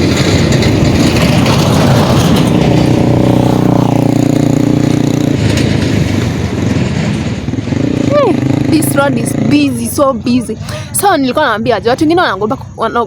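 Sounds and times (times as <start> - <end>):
vehicle engine passing: 0.0 - 11.0
rushing road noise: 0.0 - 13.0.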